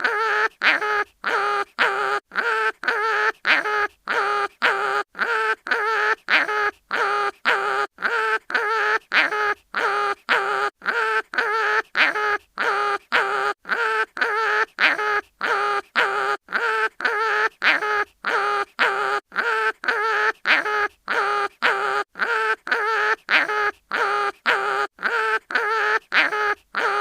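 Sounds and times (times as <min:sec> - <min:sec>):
cartoon animal crying in pain: 0:00.0 - 0:27.0.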